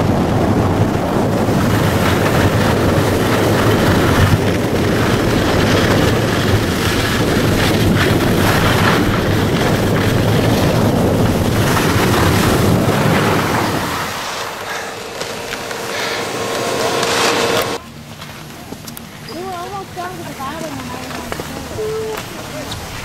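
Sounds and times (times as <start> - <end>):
wind on microphone: 0.0 - 18.1, 19.1 - 23.0
skis scraping over snow: 0.1 - 23.0.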